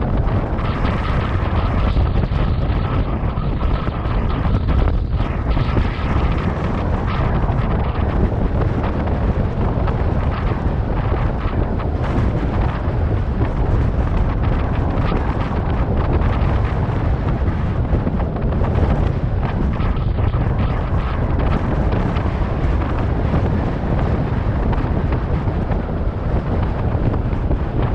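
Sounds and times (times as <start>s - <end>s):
wind on microphone: 0.0s - 27.9s.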